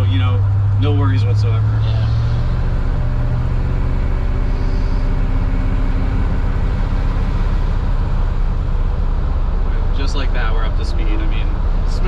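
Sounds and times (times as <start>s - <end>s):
car engine humming from inside cabin: 0.0s - 12.0s.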